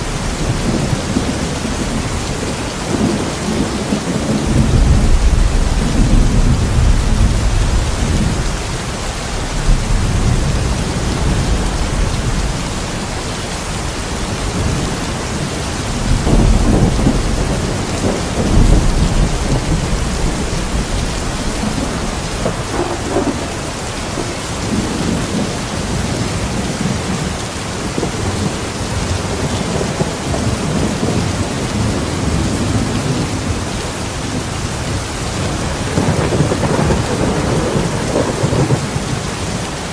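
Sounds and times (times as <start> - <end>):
low rolls of thunder: 0.0 - 39.9
steady rain falling: 0.0 - 39.9.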